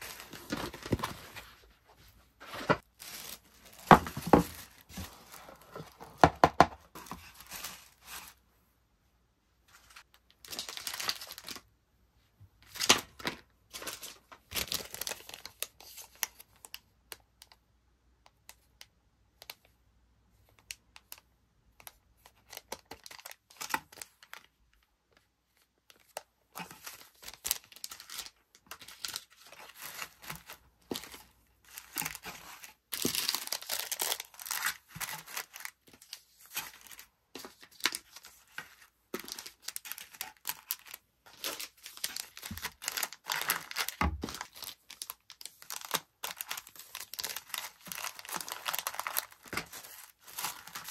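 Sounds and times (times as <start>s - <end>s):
paper and plastic packaging rustling: 0.0s - 8.4s, 9.7s - 11.7s, 12.6s - 16.8s, 21.8s - 25.2s, 25.8s - 50.9s.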